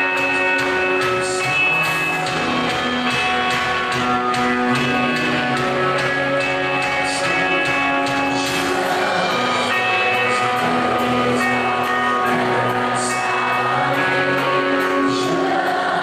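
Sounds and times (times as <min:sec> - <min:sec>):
guitar: 0:00.0 - 0:16.0
live band playing instrumental: 0:00.0 - 0:16.0.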